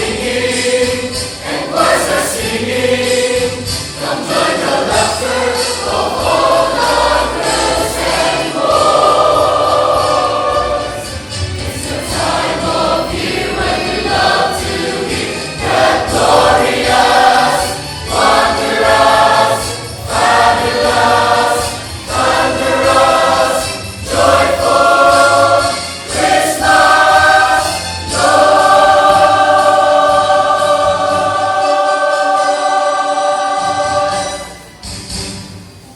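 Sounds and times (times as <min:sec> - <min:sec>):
choir singing: 0:00.0 - 0:34.7.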